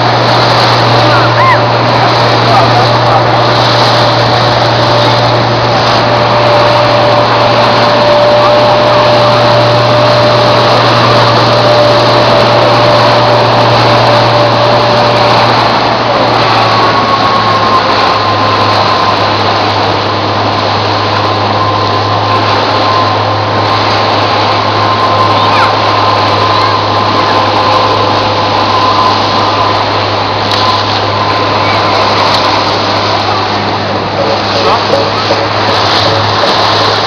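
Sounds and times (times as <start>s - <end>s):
boat motor whining: 0.0s - 37.0s
water rushing past hull: 0.0s - 37.0s
wind: 0.0s - 37.0s.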